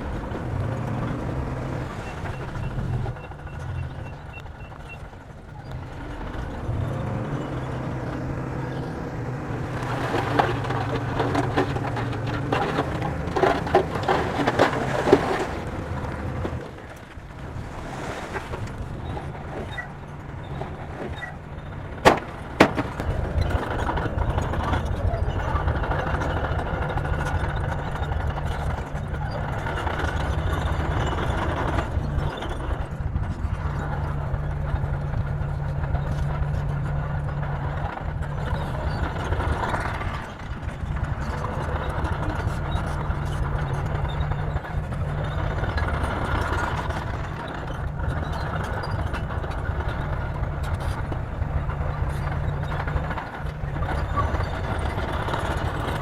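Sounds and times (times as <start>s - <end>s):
diesel engine running: 0.0s - 56.0s
tracks clanking: 0.0s - 56.0s.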